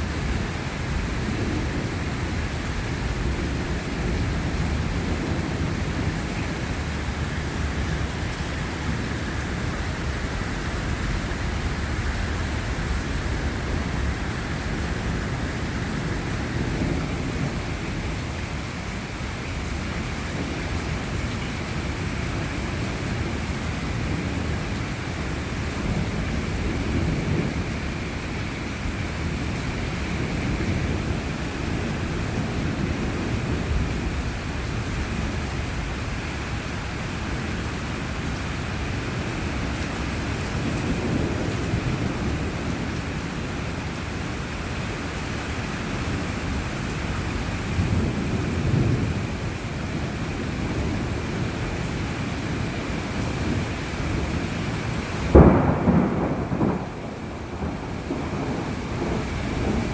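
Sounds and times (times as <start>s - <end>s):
low thunder rumbling: 0.0s - 59.9s
steady rain falling: 0.0s - 59.9s.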